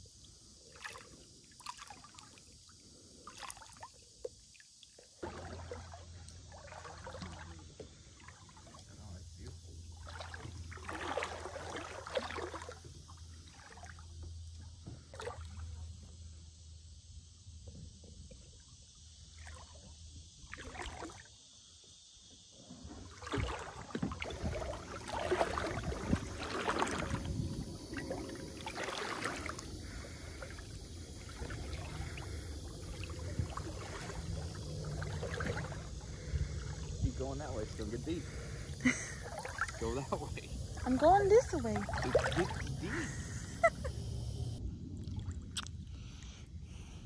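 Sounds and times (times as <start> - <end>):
water splashing around kayaks: 0.0 - 16.3, 17.7 - 21.5, 22.5 - 46.3.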